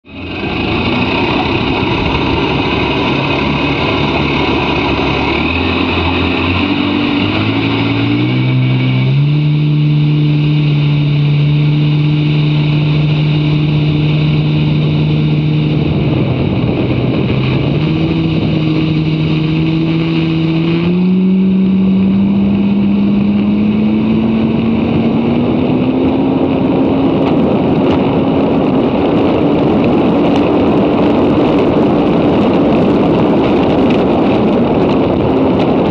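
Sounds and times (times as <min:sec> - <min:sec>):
jet ski engine at full throttle: 0:00.0 - 0:35.9
wind and water rush: 0:00.0 - 0:35.9.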